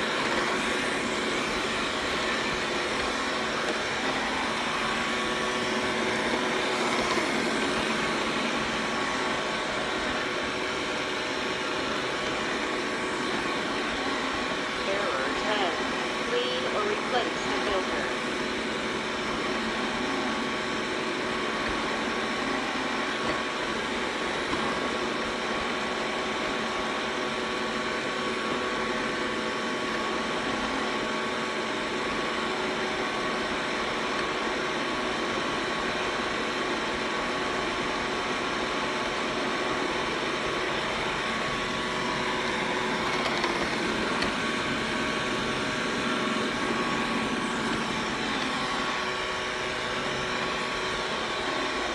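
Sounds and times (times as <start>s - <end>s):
robot vacuum whirring: 0.0s - 51.9s.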